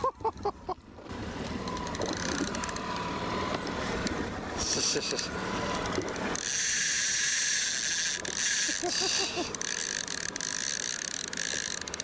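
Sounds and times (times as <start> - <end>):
fishing reel drag whining: 1.4 - 12.0.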